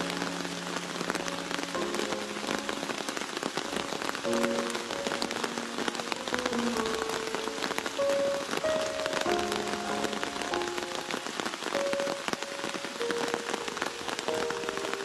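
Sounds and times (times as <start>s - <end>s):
heavy rain falling: 0.0s - 15.0s
soft music of held notes: 0.0s - 15.0s.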